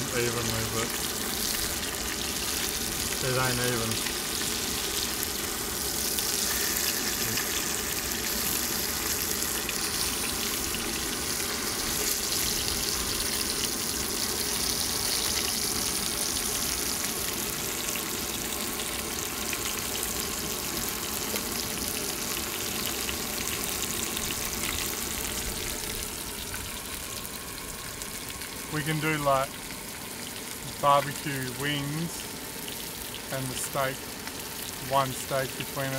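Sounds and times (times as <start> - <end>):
fish sizzling in a frying pan: 0.0 - 35.9.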